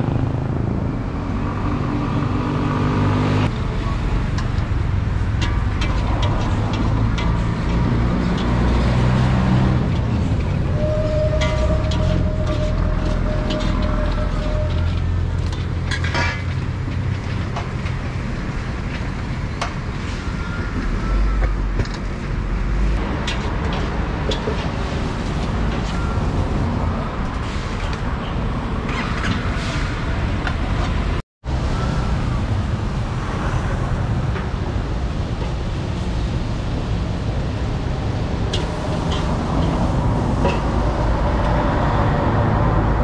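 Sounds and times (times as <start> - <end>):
traffic rumble: 0.0 - 43.0.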